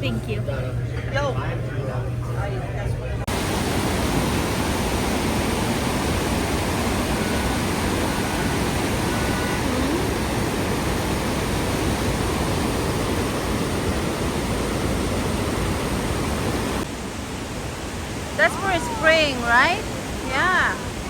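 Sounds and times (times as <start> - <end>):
waterfall roaring: 3.3 - 21.0.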